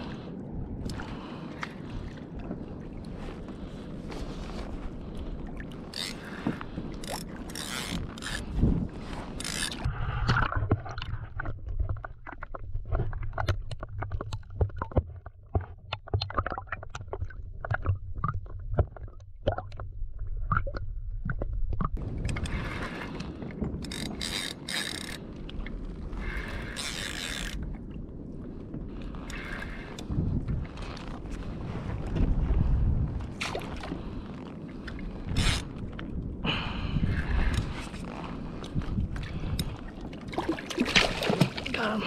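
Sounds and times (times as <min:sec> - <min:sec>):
wind on microphone: 0:00.0 - 0:14.2, 0:20.5 - 0:42.0
water splashing around kayak: 0:00.0 - 0:42.0.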